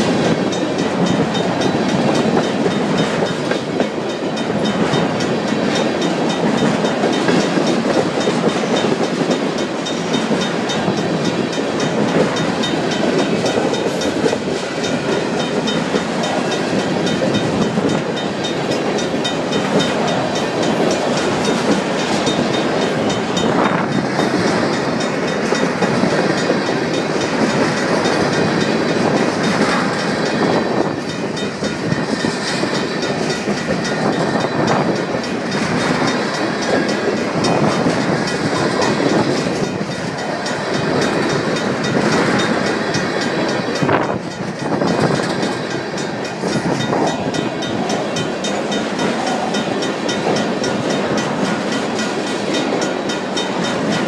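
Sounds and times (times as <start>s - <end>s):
train wheel clacks: 0.0s - 54.0s
train wheels rumbling on rails: 0.0s - 54.0s.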